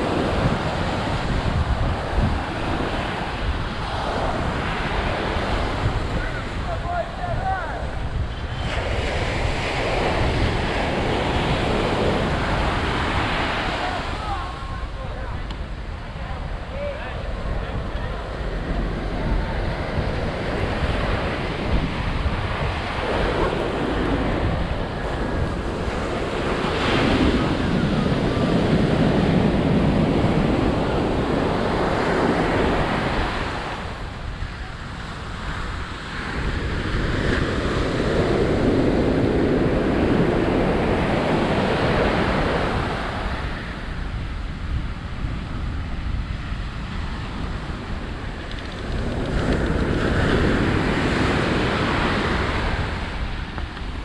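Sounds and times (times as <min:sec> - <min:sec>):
surf breaking on beach: 0:00.0 - 0:54.0
wind rumbling on microphone: 0:00.0 - 0:54.0.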